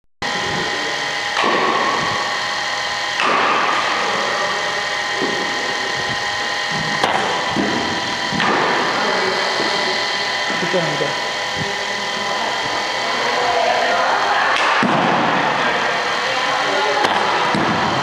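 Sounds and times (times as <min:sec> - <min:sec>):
machine humming with whine: 0:00.2 - 0:18.0.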